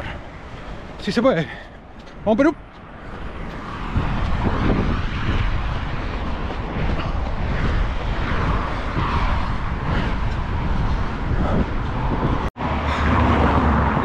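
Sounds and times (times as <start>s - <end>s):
road traffic passing: 0.0s - 14.0s
wind buffeting microphone: 0.0s - 14.0s.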